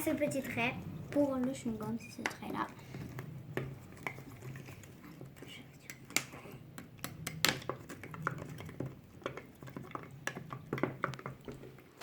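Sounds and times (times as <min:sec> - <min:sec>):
utensil stirring in container: 0:00.3 - 0:12.0.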